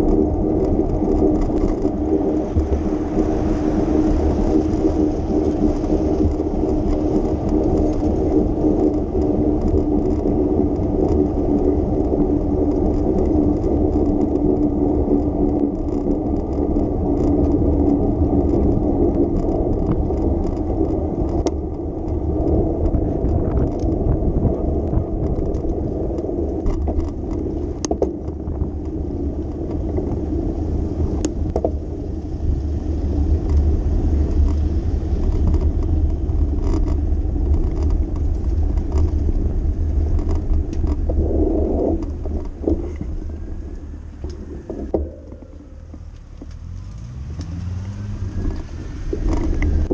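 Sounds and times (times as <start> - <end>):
bicycle tyres rumbling: 0.0 - 49.9
hum: 0.0 - 49.9
traffic: 0.0 - 49.9
wind: 0.0 - 49.9.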